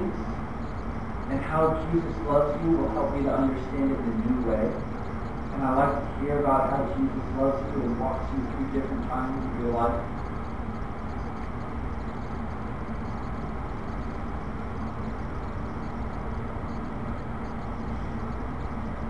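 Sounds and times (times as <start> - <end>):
faint steady tone: 0.0 - 19.0
low hiss and hum: 0.0 - 19.0.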